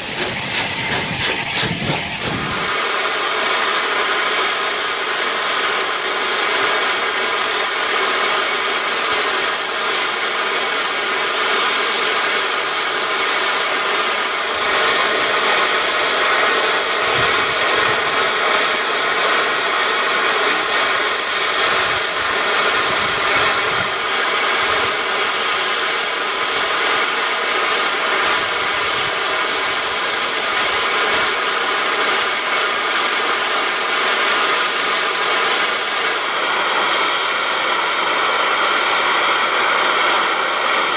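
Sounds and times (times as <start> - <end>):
steam locomotive hissing: 0.0 - 40.9.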